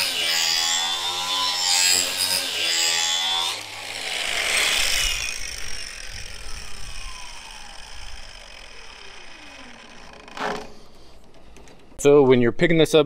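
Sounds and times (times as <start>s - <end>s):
grinder disc spinning down: 0.0s - 11.0s
angle grinder grinding metal: 0.0s - 11.3s.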